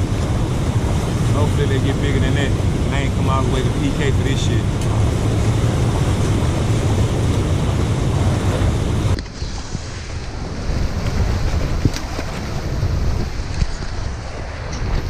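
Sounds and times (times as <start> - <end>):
whitewater rushing over rocks: 0.0 - 15.0
wind rumble on microphone: 0.0 - 15.0.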